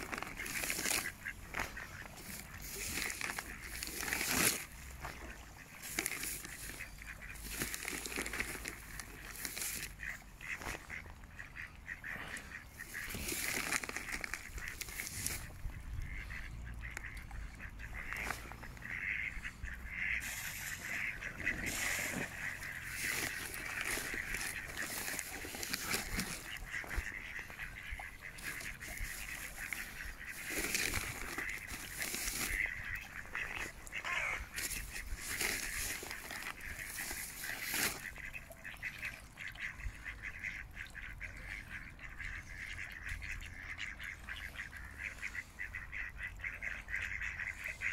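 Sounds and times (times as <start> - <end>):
ducks quacking: 0.0 - 47.9
splashes: 0.0 - 47.9.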